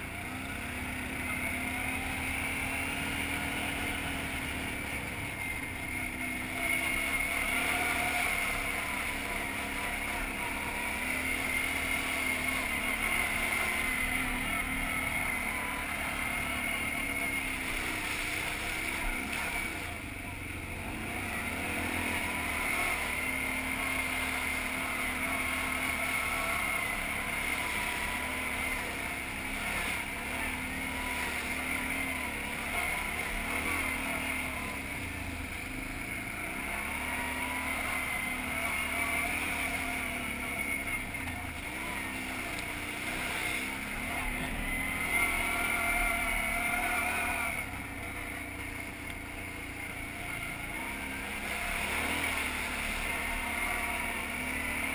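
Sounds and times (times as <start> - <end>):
quad bike engine under load: 0.0 - 54.9.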